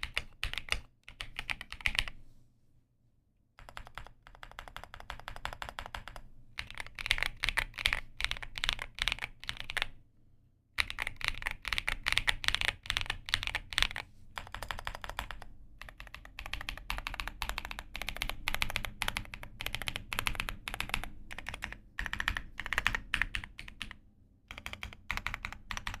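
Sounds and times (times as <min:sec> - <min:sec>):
fast typing on keyboard: 0:00.0 - 0:02.1, 0:03.6 - 0:10.0, 0:10.8 - 0:26.0.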